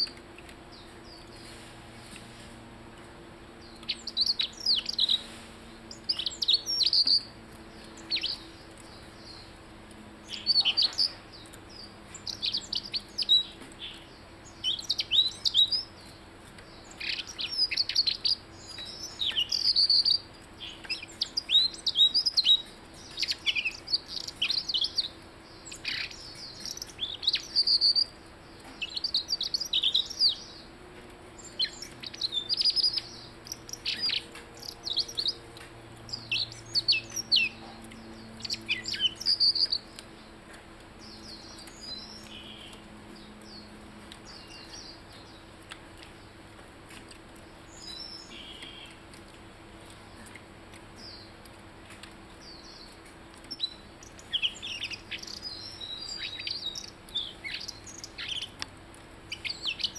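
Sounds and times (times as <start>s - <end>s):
bird chirping song: 0.0s - 2.2s, 3.0s - 58.7s, 59.3s - 59.9s
faint low hum: 0.0s - 59.9s.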